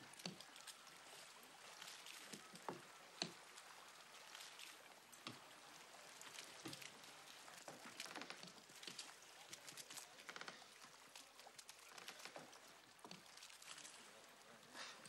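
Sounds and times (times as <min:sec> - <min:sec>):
light splashes: 0:00.0 - 0:15.0
water lapping against a net: 0:00.0 - 0:15.0.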